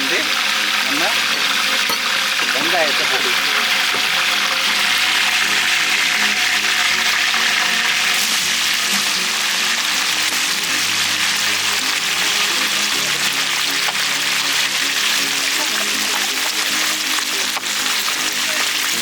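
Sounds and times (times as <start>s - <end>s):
background music: 0.0s - 19.0s
onions sizzling in hot oil: 0.0s - 19.0s.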